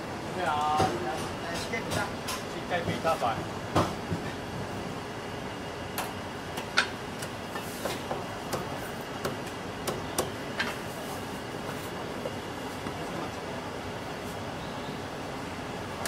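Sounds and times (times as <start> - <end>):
street traffic hum: 0.0 - 16.0.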